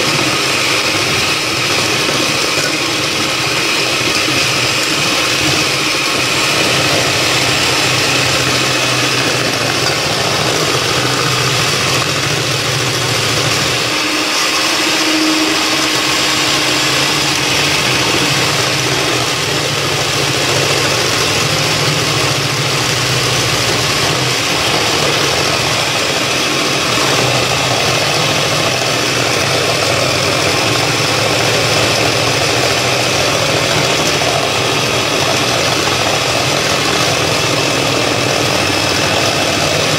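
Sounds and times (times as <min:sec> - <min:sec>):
electric mixer whisking batter: 0:00.0 - 0:39.9.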